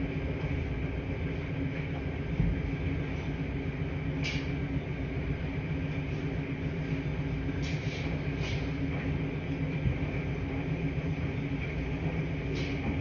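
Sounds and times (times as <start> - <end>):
washing machines humming: 0.0 - 13.0.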